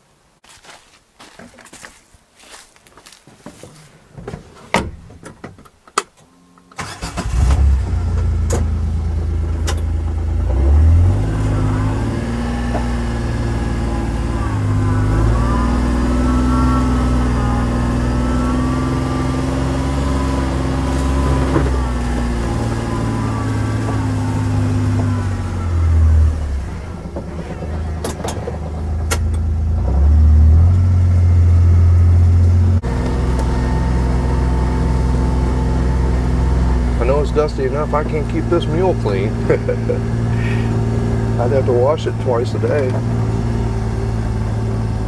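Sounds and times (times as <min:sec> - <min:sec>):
utility vehicle engine running: 0:06.7 - 0:45.0.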